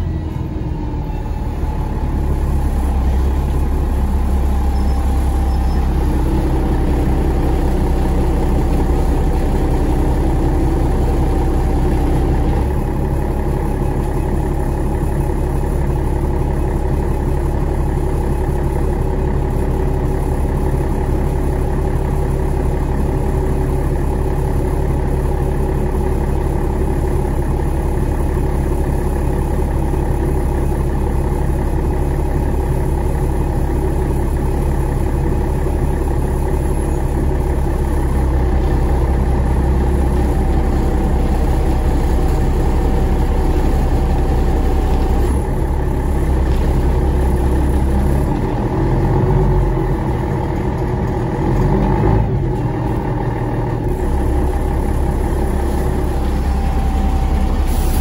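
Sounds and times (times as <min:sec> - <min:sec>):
bus engine hum: 0:00.0 - 0:58.0
road noise: 0:00.0 - 0:58.0.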